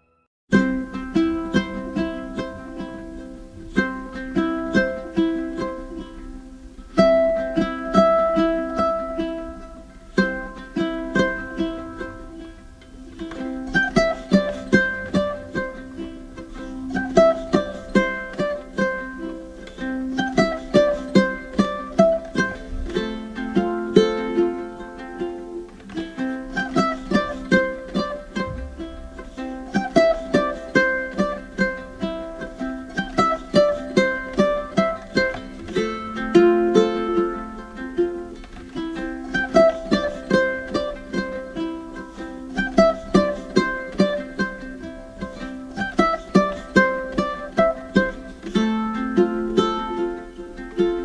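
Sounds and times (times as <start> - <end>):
light plucked-string music: 0.0 - 51.0.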